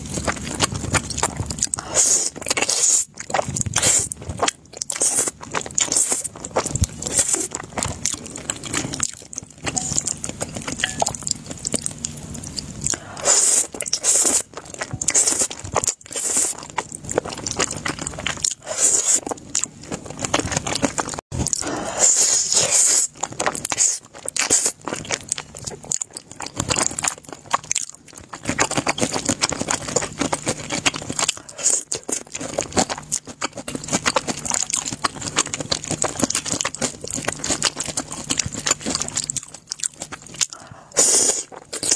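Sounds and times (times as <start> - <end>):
chewing with wet mouth clicks: 0.0 - 21.6, 23.0 - 41.9
food crunching: 0.0 - 41.9
noodles being slurped: 0.0 - 41.9.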